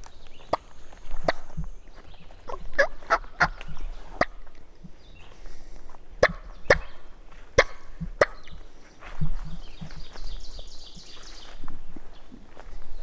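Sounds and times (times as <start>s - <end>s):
soft scuffing: 0.0s - 13.0s.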